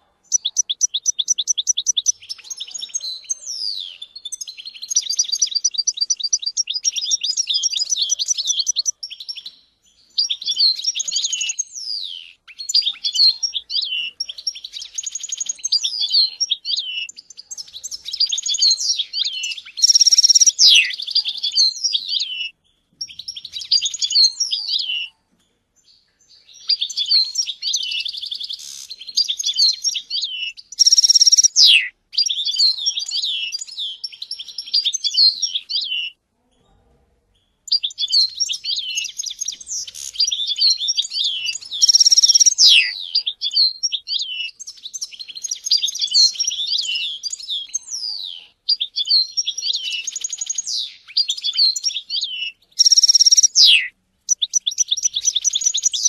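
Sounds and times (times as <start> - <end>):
goldfinch twittering song: 0.3 - 25.1, 26.4 - 36.1, 37.7 - 56.0.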